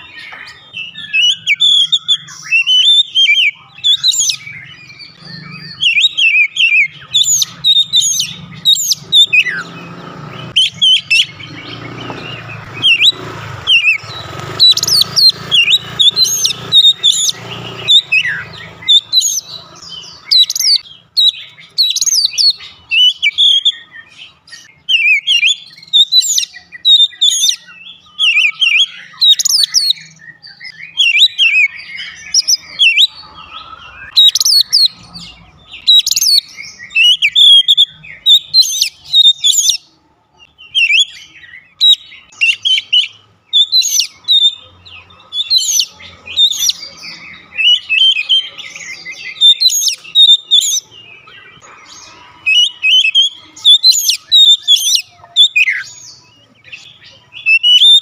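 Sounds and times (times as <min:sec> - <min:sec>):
bird singing whistles and chirps: 0:00.0 - 0:58.0.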